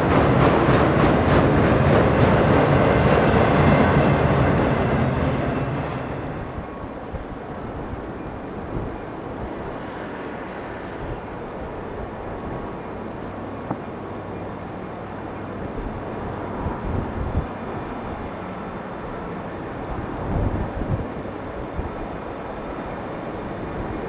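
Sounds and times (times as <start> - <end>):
freight train rumble: 0.0 - 24.0.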